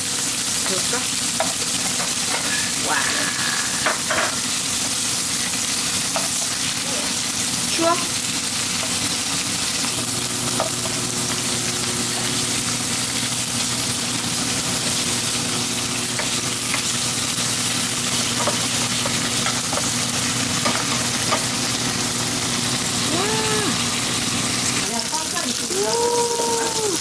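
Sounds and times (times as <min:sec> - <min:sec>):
pork sizzling in a frying pan: 0:00.0 - 0:27.0.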